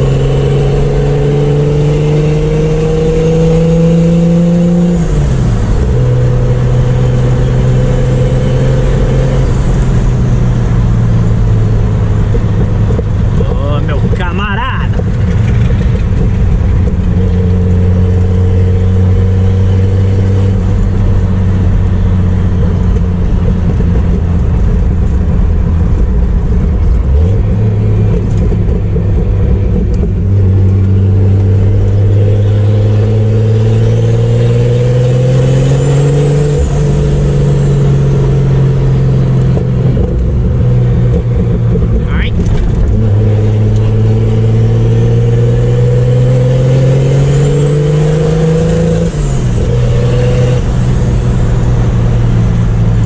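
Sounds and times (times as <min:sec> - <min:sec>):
car engine pulling: 0:00.0 - 0:53.0.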